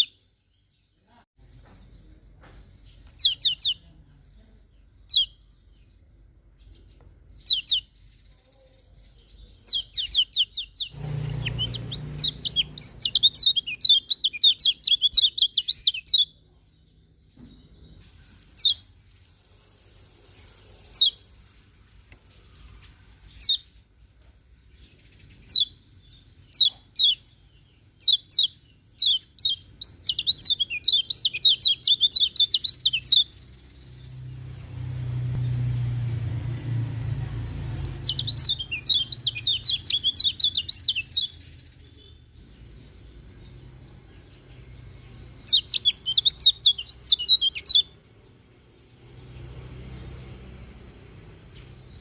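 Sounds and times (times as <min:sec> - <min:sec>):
bird chirping: 0:00.0 - 0:19.0, 0:20.2 - 0:21.6, 0:22.3 - 0:52.0.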